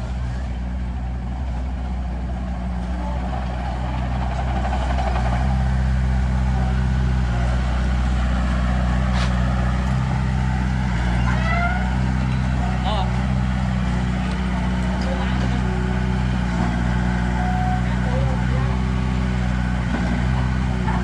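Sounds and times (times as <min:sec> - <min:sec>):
large diesel engine running: 0:00.0 - 0:21.0.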